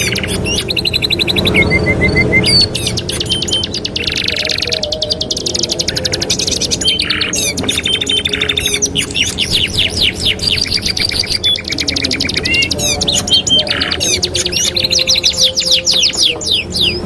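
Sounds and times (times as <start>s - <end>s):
canaries singing trills: 0.0s - 17.0s.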